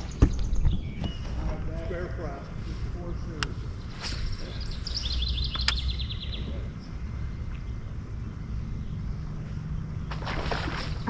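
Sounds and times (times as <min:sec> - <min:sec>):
songbird chirping: 0:00.0 - 0:11.0
steady low rumble: 0:00.0 - 0:11.0.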